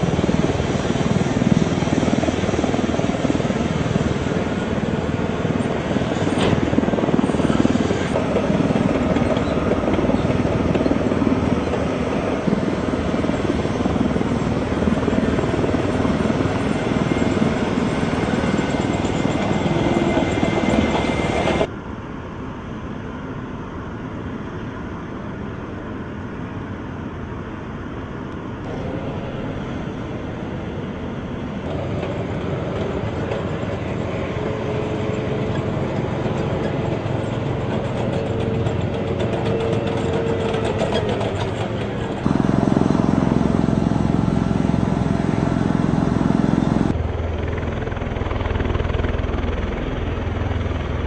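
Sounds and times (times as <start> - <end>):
tank engine running: 0.0 - 21.7, 28.7 - 51.0
steady whine: 0.0 - 51.0.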